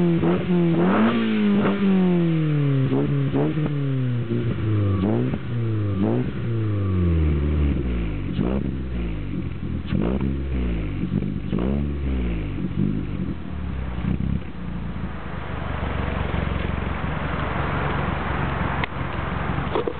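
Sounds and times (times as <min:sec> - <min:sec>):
car engine idling: 0:00.0 - 0:19.9
car engine revving: 0:00.0 - 0:19.9.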